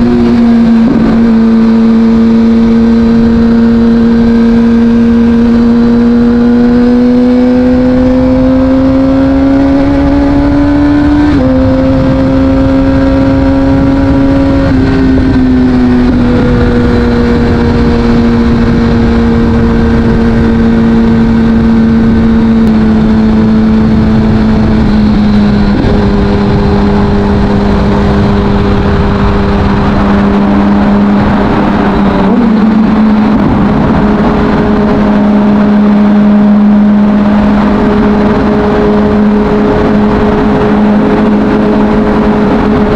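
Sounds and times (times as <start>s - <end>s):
motorcycle engine under way: 0.0s - 42.9s
wind rush: 0.0s - 42.9s.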